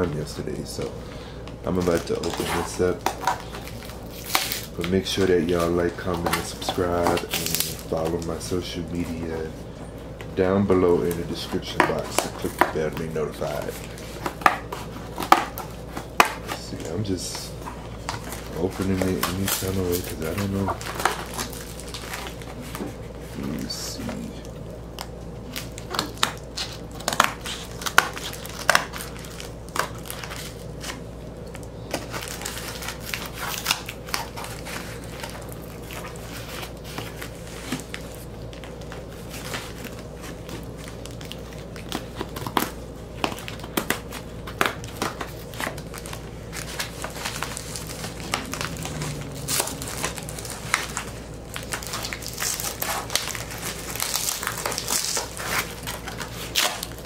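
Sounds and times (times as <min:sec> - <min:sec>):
plastic crinkling: 0:00.0 - 0:57.0
cardboard crackling: 0:01.6 - 0:09.5, 0:10.3 - 0:57.0.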